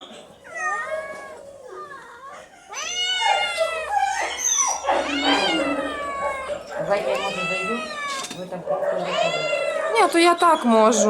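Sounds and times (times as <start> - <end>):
cats meowing: 0.0 - 11.0.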